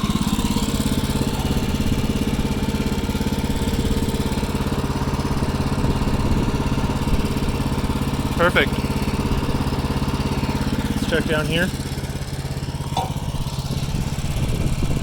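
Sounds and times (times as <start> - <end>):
sawmill engine running: 0.0 - 15.0.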